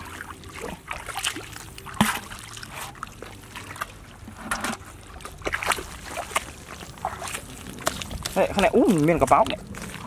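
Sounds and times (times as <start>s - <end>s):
muddy water splashing: 0.0s - 10.0s.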